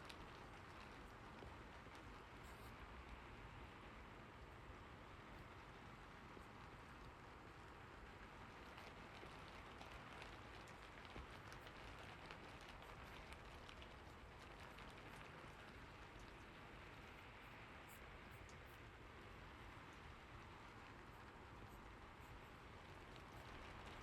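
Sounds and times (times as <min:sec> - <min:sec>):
faint steady rain: 0:00.0 - 0:24.0
raindrop ticks: 0:00.0 - 0:24.0.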